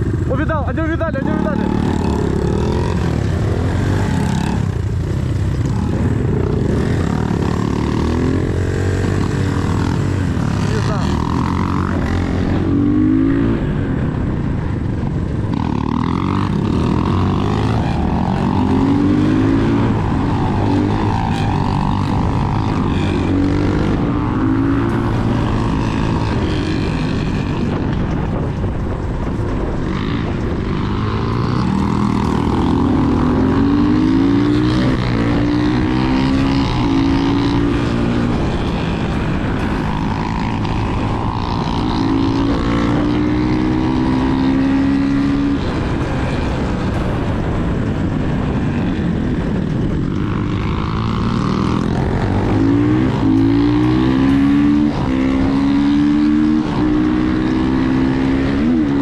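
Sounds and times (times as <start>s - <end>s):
motorcycle engine revving: 0.0s - 59.0s
steady rush of noise: 0.0s - 59.0s.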